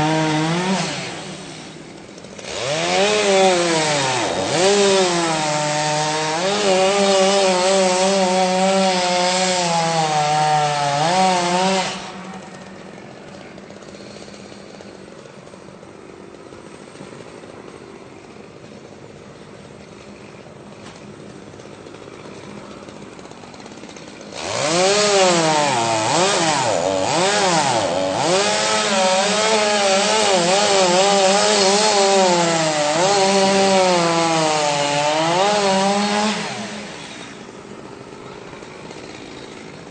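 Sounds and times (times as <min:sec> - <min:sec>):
chainsaw cutting a tree: 0:00.0 - 0:39.9.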